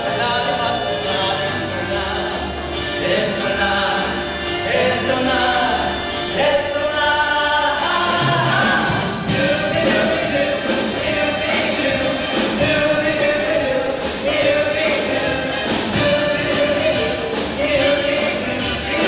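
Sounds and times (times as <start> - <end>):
backing track with steady beat: 0.0 - 19.0
group of voices singing: 0.0 - 19.0.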